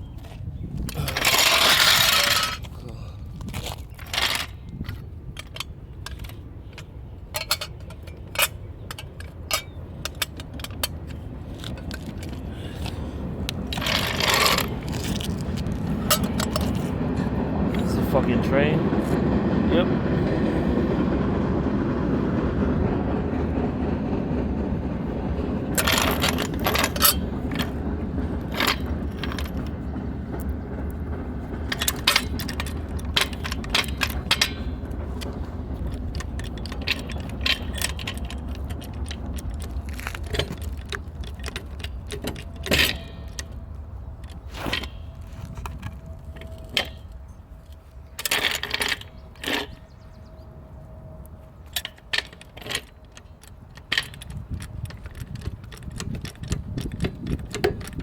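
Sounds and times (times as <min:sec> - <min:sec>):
train rumbling past: 0:00.0 - 0:58.0.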